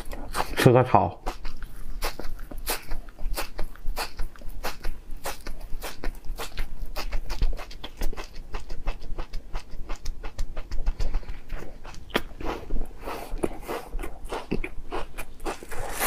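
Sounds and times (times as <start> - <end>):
wet chewing with crackling clicks: 1.2 - 16.0.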